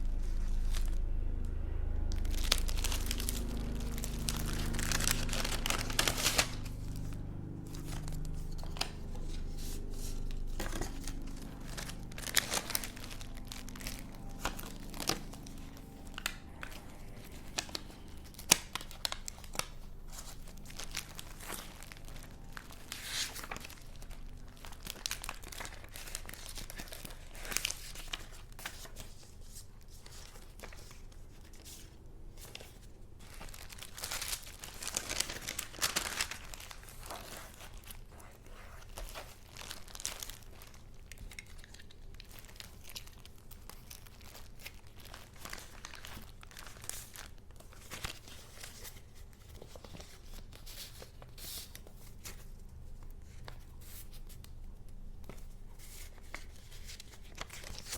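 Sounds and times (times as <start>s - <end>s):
paper rustling and crinkling: 0.1s - 57.9s.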